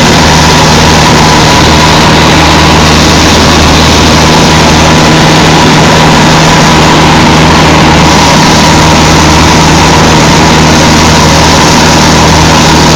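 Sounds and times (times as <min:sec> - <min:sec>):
light aircraft engine and propeller drone: 0:00.0 - 0:12.9.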